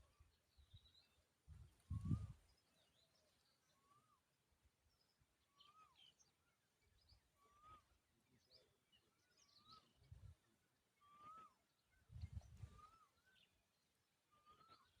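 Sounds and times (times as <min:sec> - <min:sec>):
faint whistled bird calls: 0:00.0 - 0:15.0.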